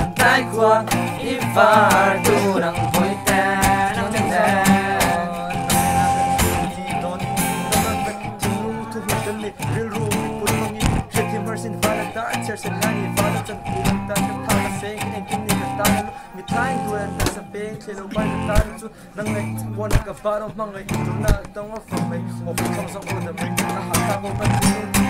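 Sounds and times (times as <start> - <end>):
acoustic guitar strumming: 0.0 - 25.0
voices singing along: 0.0 - 25.0.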